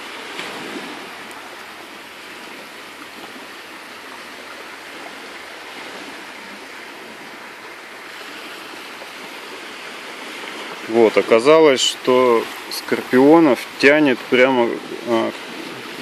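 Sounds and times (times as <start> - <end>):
gentle waves: 0.0 - 16.0
light breeze: 0.0 - 16.0.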